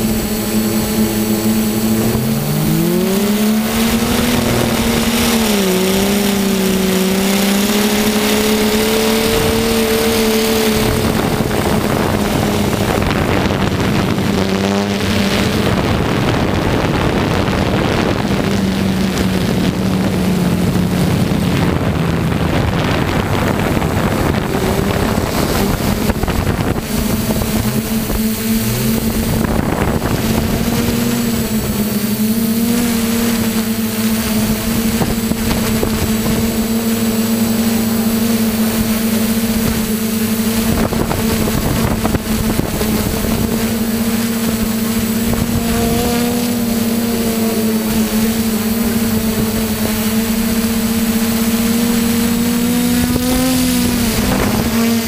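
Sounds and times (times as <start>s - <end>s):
drone motors humming: 0.0s - 55.0s
wind noise on microphone: 0.0s - 55.0s.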